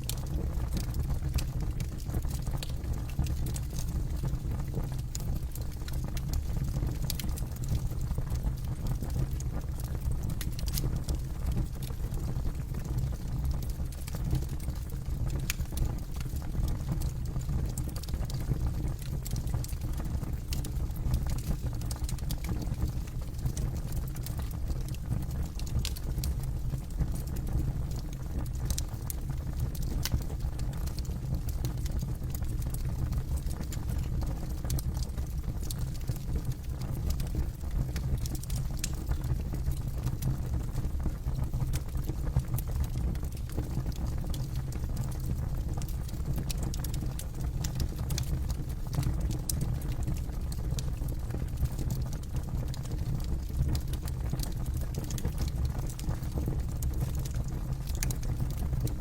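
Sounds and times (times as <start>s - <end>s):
campfire burning: 0.0s - 59.0s
low rumble of fire: 0.0s - 59.0s.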